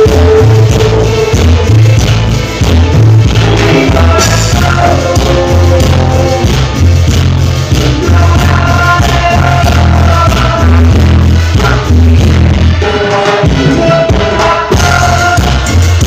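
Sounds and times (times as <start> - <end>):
live band playing amplified music: 0.0 - 16.0.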